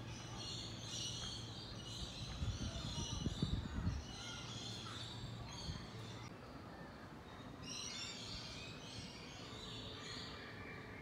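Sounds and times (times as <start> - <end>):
faint low outdoor hum: 0.0 - 11.0
wild birds twittering: 0.0 - 11.0.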